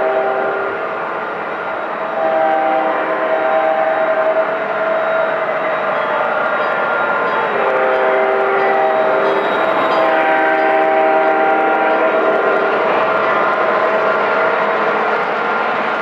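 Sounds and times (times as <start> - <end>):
model train on track: 0.0 - 16.0.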